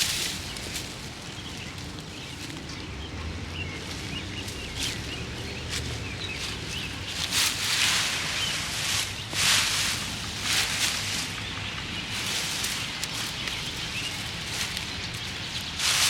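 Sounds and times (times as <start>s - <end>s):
crunching fallen leaves: 0.0s - 16.0s.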